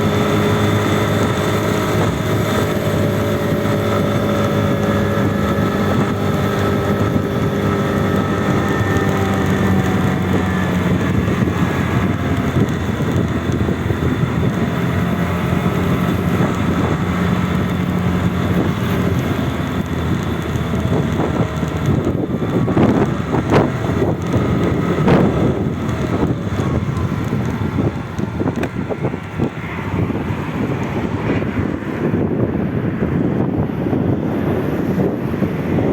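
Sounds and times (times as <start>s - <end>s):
vehicle engines running: 0.0s - 35.9s
wind on microphone: 0.0s - 35.9s.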